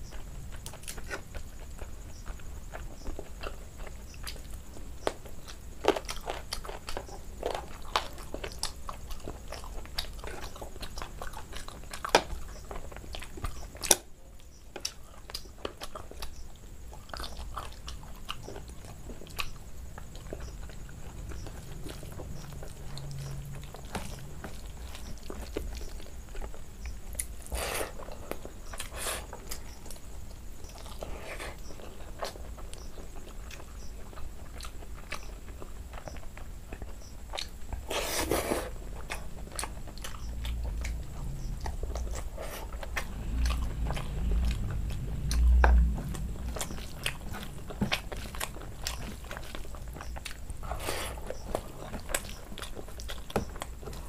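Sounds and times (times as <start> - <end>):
close chewing with wet mouth clicks: 0.0 - 54.0.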